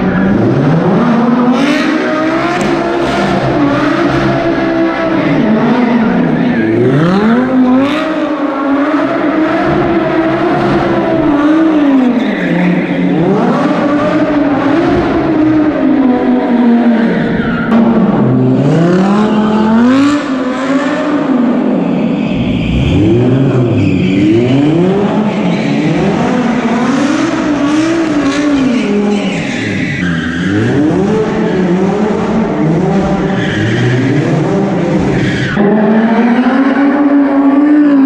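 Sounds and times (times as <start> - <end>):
tyres squealing and skidding: 0.0 - 18.1, 18.8 - 37.7
car engine revving: 0.0 - 38.0.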